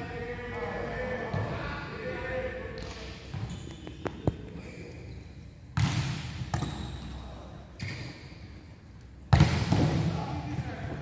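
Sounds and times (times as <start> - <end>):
volleyball hits echoing in a hall: 0.0 - 11.0.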